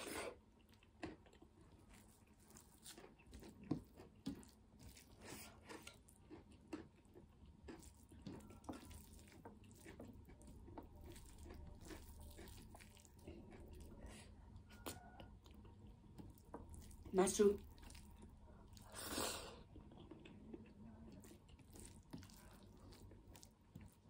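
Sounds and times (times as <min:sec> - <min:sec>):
soft chewing: 0:00.0 - 0:24.0
fingers mixing food squishes: 0:00.1 - 0:24.0.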